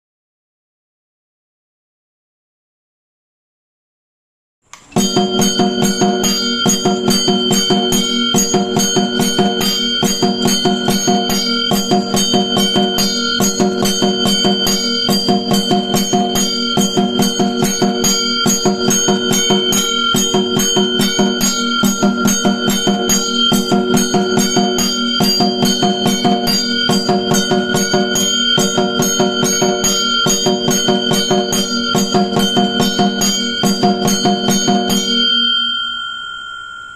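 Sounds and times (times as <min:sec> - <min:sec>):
drum beats: 0:04.8 - 0:35.2
temple bell struck: 0:05.0 - 0:36.9.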